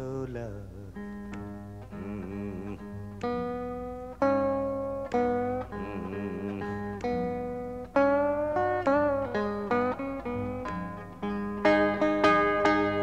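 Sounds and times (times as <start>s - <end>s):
acoustic blues guitar plucking: 0.0s - 13.0s.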